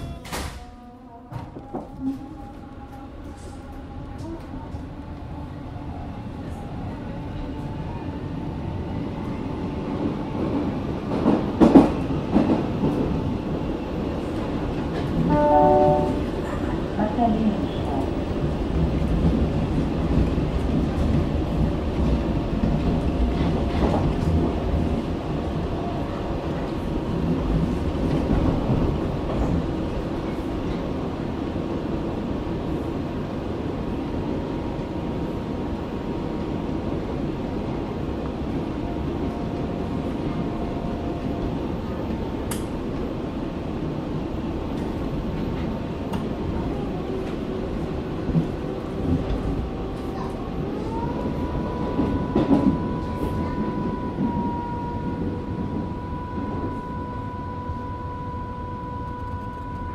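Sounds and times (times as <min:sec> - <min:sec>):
subway car rumbling on track: 0:00.0 - 0:59.9.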